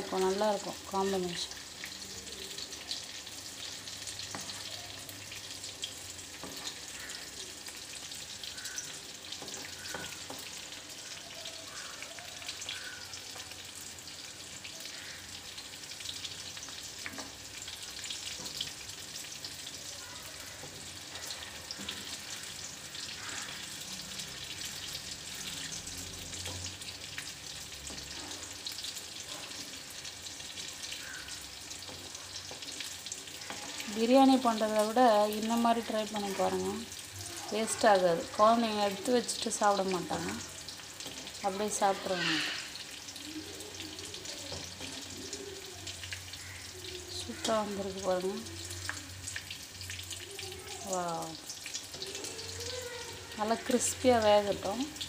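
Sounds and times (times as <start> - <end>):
battered food frying in hot oil: 0.0 - 55.0.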